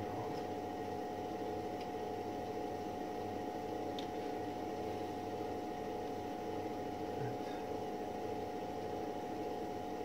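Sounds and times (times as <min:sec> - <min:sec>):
background hum: 0:00.0 - 0:10.0.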